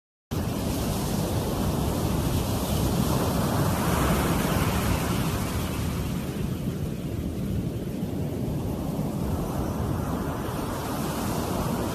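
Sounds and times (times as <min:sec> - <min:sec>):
wind on microphone: 0:00.3 - 0:11.9
surf breaking on beach: 0:00.4 - 0:11.9.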